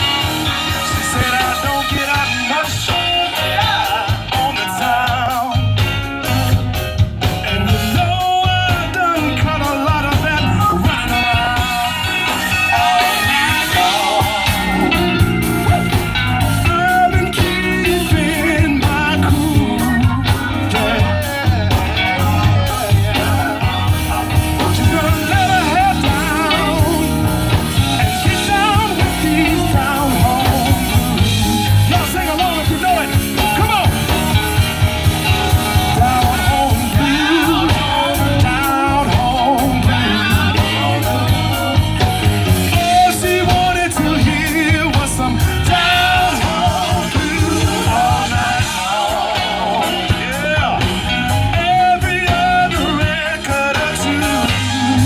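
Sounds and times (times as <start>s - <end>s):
person singing: 0.0s - 6.0s, 7.3s - 55.0s
electric guitar: 0.0s - 55.0s
live blues-rock band: 0.0s - 55.0s.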